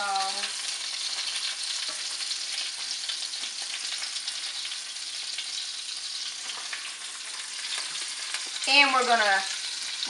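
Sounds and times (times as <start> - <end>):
meatballs sizzling in a frying pan: 0.0 - 10.0.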